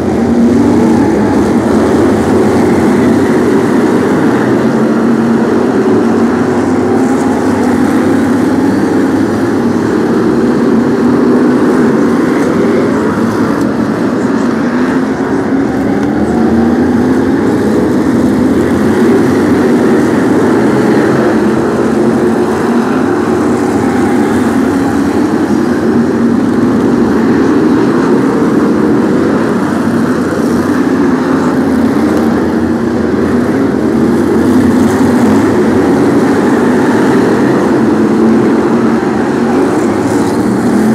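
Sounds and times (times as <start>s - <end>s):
racing car engines revving: 0.0s - 40.9s.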